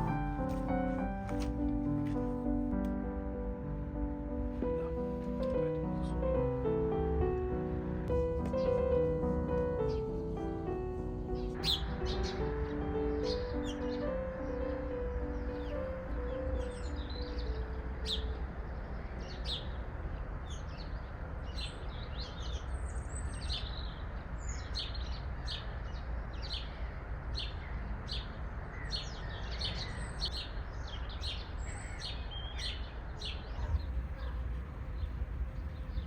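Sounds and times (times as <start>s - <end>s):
small birds chirping: 4.5s - 36.0s.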